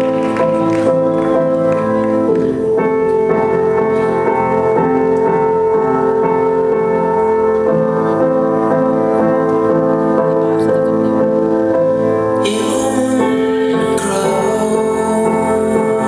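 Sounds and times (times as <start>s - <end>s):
slow sustained piano chords: 0.0s - 16.0s.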